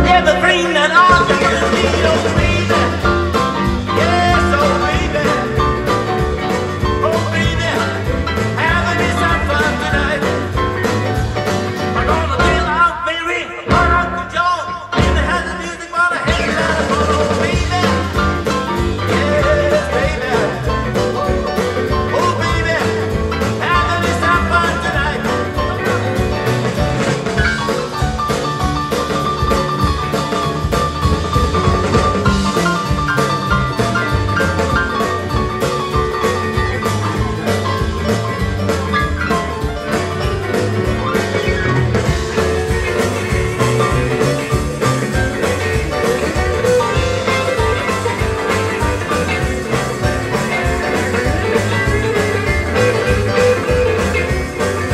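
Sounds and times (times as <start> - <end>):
live rock and roll band: 0.0 - 54.9.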